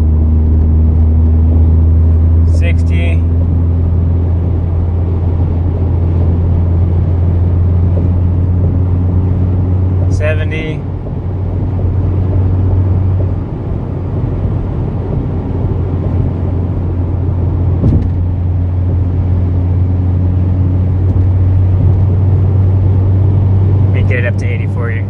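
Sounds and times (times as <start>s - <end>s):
car engine drone: 0.0s - 25.0s
wind and road noise: 0.0s - 25.0s.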